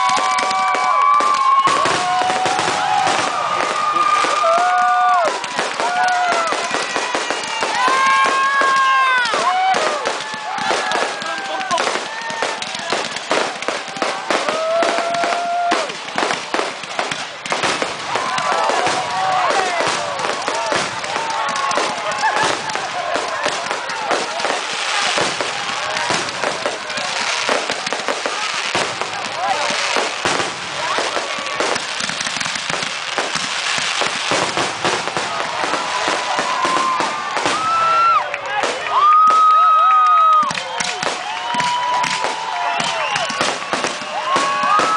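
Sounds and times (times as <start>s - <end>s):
firecrackers popping: 0.0s - 44.9s.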